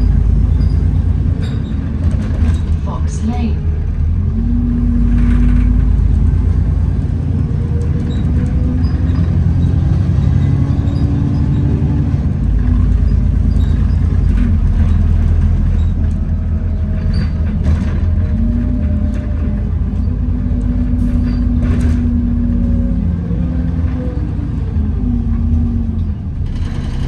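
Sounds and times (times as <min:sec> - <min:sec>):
bus drivetrain rumble and whine: 0:00.0 - 0:27.0.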